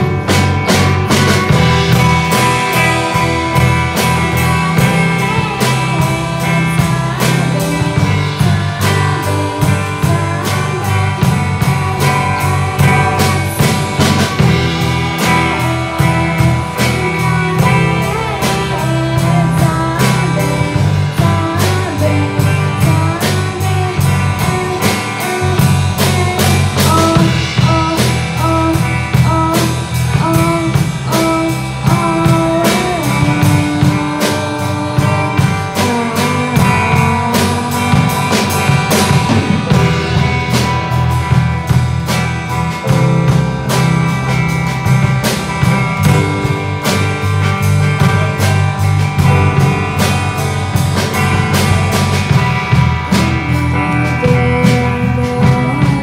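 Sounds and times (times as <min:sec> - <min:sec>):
drum kit beat: 0:00.0 - 0:56.0
electric bass: 0:00.0 - 0:56.0
electric guitar: 0:00.0 - 0:56.0.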